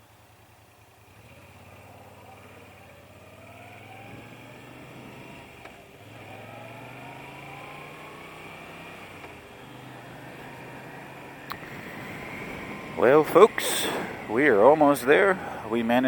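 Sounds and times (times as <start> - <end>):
motorcycle engine accelerating: 0.8 - 16.0.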